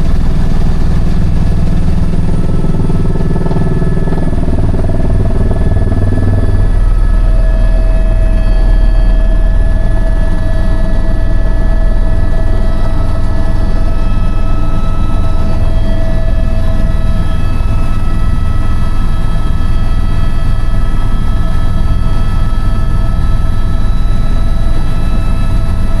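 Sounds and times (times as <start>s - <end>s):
helicopter rotor and engine rumble: 0.0s - 26.0s
steady whining tones: 0.0s - 26.0s.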